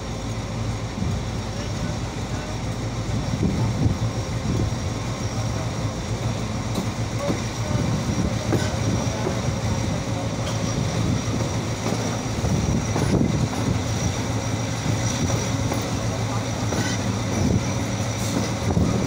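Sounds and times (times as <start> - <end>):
locomotive engine drone: 0.0 - 19.0
train wheels on rail: 0.0 - 19.0.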